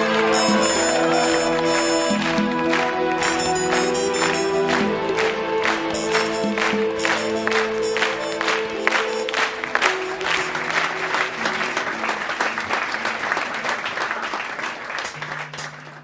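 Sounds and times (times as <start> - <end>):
audience applauding: 0.0 - 16.0
music: 0.0 - 16.0.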